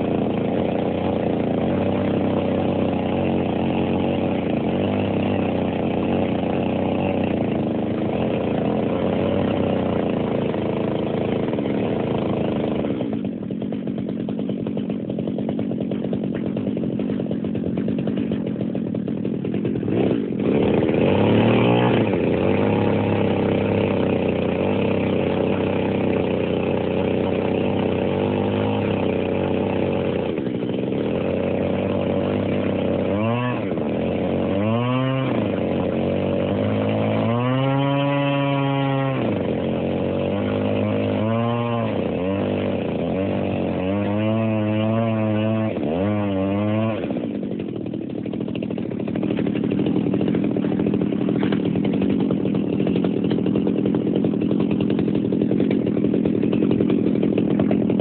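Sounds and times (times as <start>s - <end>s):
chainsaw cutting branch: 0.0s - 58.0s.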